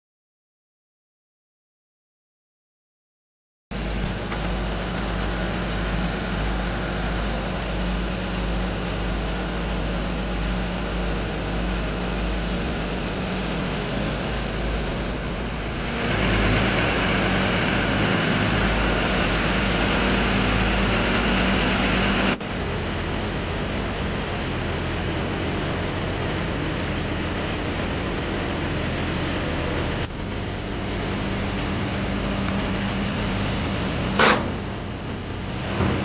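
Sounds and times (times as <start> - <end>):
diesel engine rumbling: 3.7 - 36.0.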